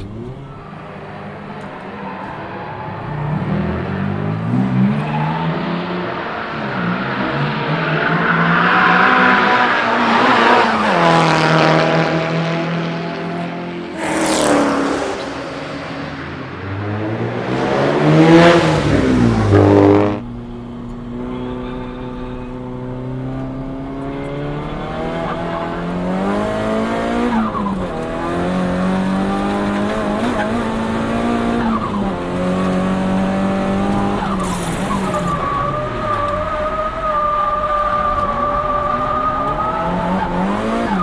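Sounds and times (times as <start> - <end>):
turbocharged car engine revving: 0.0 - 41.0.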